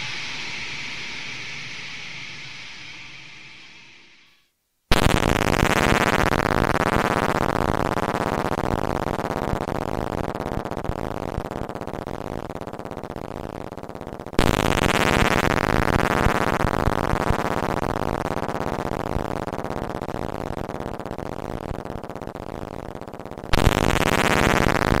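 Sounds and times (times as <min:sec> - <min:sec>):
distorted electronic noise sweep: 0:00.0 - 0:25.0.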